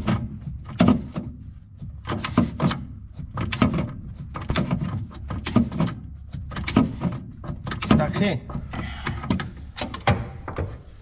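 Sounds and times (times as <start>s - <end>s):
metal knocks: 0.0s - 10.9s.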